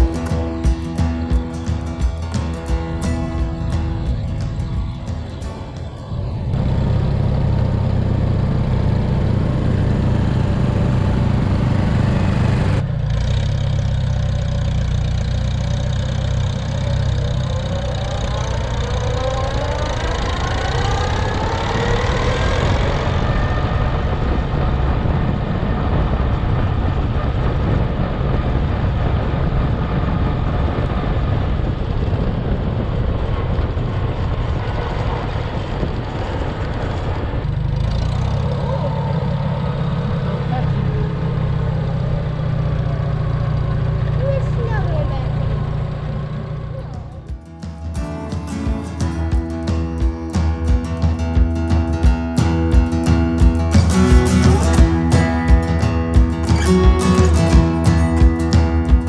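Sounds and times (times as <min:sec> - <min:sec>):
tractor engine running: 0:00.0 - 0:59.0
whine rising in pitch: 0:00.0 - 0:59.0.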